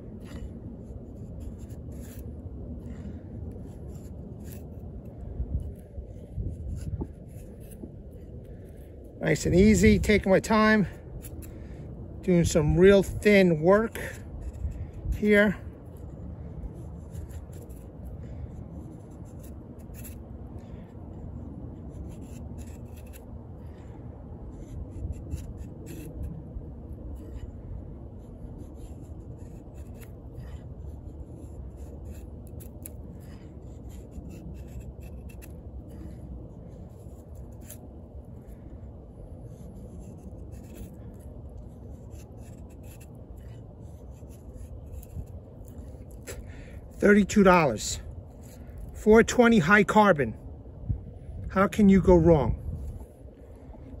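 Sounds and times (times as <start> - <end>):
knife scraping wooden stick: 0.0 - 50.3.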